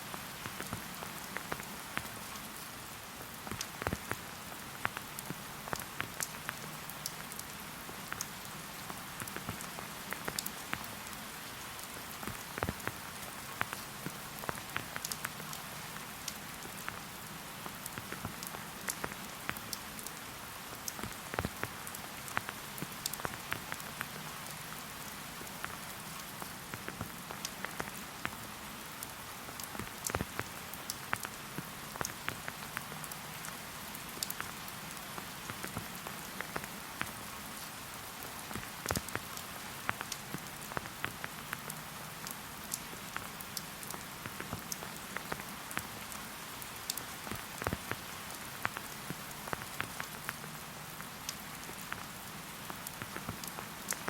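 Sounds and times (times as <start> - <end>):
rain falling: 0.0 - 54.0
raindrops ticking: 0.1 - 2.4, 3.0 - 54.0.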